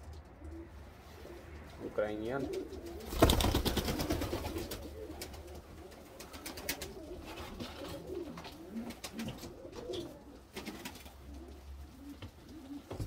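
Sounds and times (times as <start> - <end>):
pigeons cooing: 0.2 - 13.0
birds clicking and rustling: 2.4 - 13.0.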